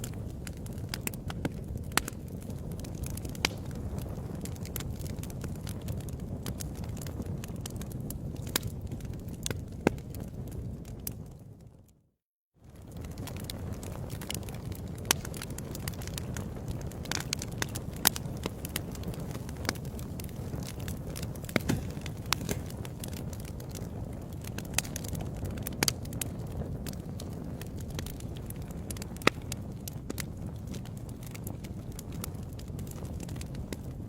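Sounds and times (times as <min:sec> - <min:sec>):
fire crackling with pops: 0:00.0 - 0:11.8, 0:12.6 - 0:34.0.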